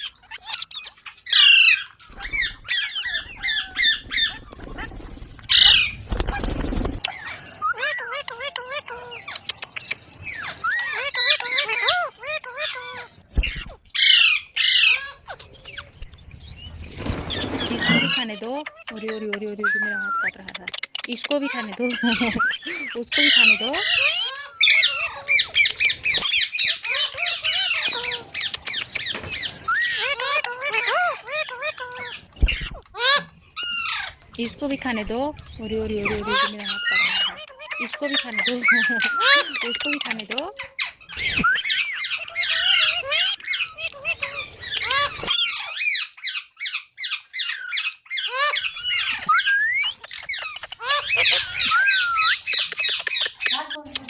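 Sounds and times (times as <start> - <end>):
parrot squawking: 0.0 - 6.4, 7.0 - 15.8, 17.4 - 54.0.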